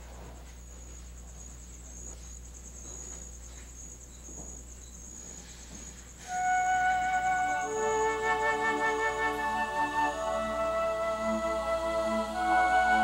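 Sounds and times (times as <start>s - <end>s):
crickets chirping: 0.0s - 13.0s
faint low hum: 0.0s - 13.0s.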